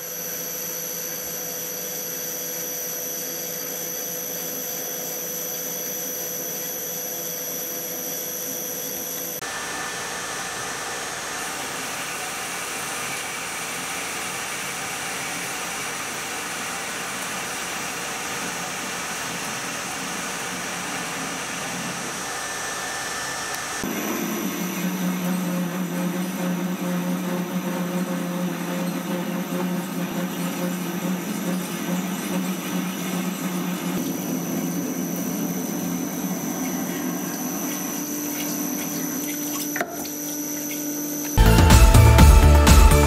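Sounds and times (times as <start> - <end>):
metal lathe cutting steel: 0.0 - 42.1
spindle drive whine: 0.0 - 43.0.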